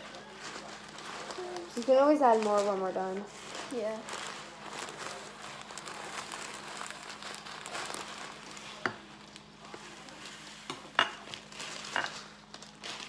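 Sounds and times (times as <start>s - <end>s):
slime crackling and crinkling: 0.0s - 13.0s.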